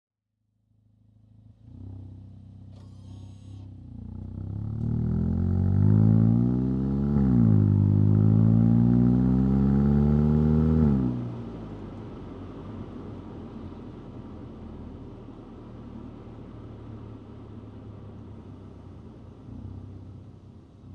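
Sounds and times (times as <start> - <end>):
road noise: 0.9 - 20.9
car engine accelerating hard: 1.4 - 20.9.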